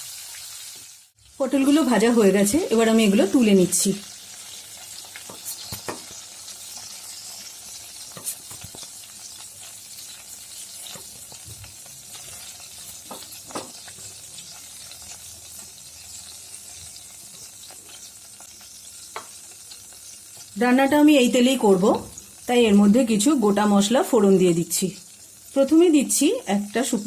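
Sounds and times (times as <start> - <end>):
hot oil sizzling in a pan: 0.0 - 27.0.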